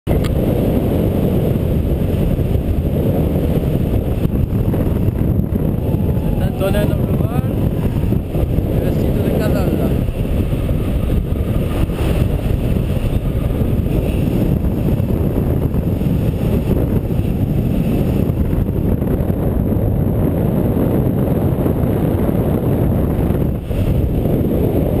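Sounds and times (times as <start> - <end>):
wind on camera microphone: 0.1 - 25.0.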